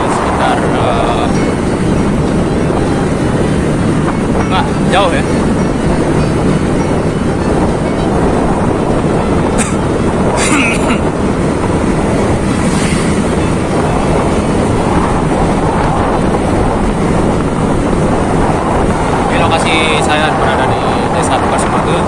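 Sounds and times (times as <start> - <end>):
motorbike engine hum: 0.0 - 22.0
wind rushing over microphone: 0.0 - 22.0.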